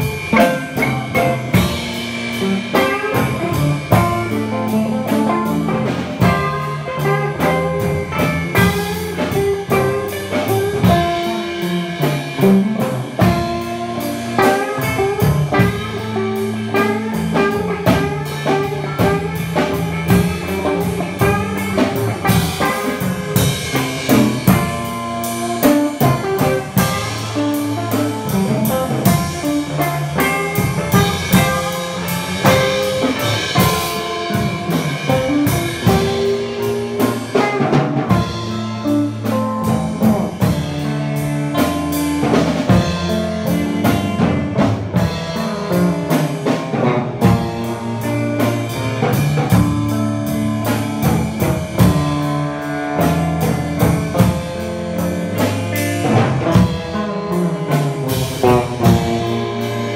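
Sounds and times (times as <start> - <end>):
drum kit beating rhythm: 0.0 - 59.9
electric guitar: 0.0 - 59.9.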